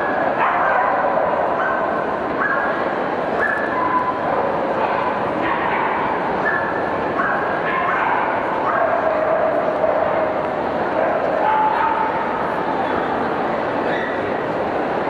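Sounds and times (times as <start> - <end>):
crowd chatter: 0.0 - 15.0.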